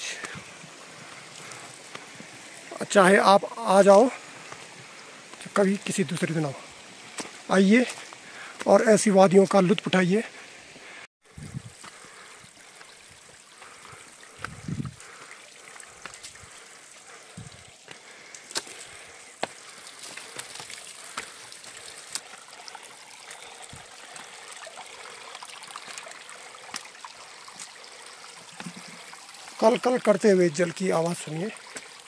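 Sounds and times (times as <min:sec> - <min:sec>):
stream trickling over stones: 0:00.0 - 0:32.0.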